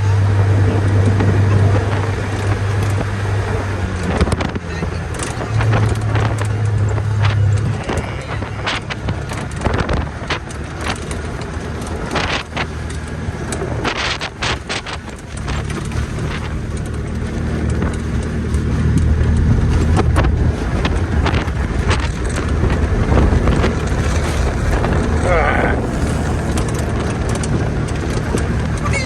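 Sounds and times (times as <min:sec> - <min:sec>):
knocks and rattles: 0:00.0 - 0:29.0
vehicle engine running: 0:00.0 - 0:29.0.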